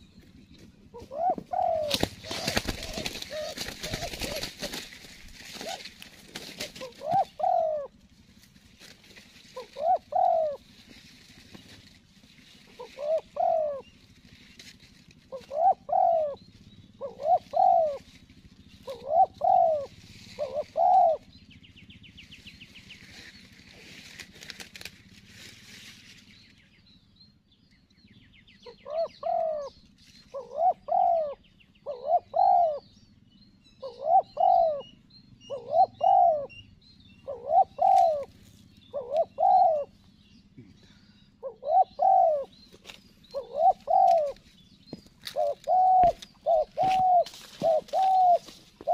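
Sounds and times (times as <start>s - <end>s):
doves cooing: 0.0s - 25.4s, 28.0s - 48.9s.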